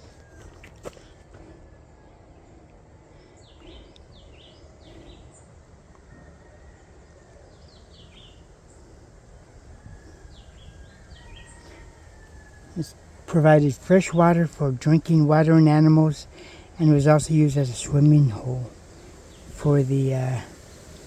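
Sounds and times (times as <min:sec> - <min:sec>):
birds chirping: 0:00.0 - 0:21.0
low outdoor background noise: 0:00.0 - 0:21.0.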